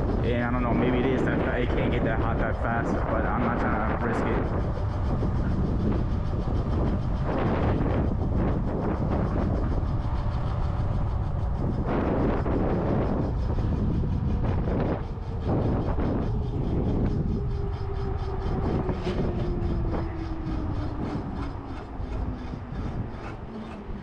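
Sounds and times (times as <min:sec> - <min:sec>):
electric hub motor whine: 0:00.0 - 0:24.0
wind rumbling on microphone: 0:00.0 - 0:24.0.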